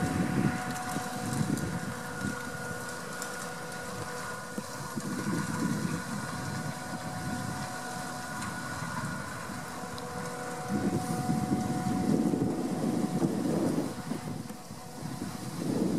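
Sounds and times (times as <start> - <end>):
steady high whine: 0.0 - 15.9
tractor engine running: 0.0 - 15.9.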